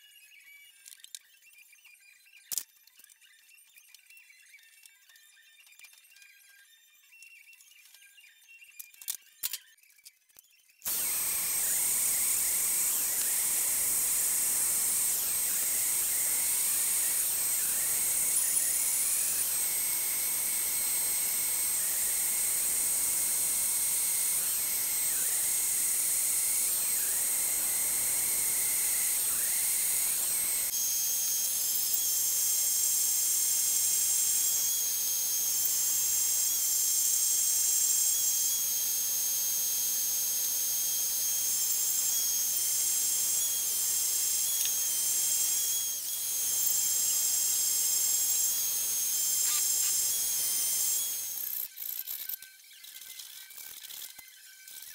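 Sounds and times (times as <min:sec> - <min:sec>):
saw motor whining: 0:10.9 - 0:54.9.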